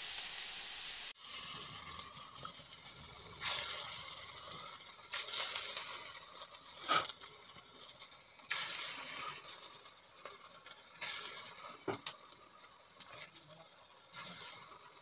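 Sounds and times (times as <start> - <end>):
batter sizzling in hot oil: 0.0 - 15.0.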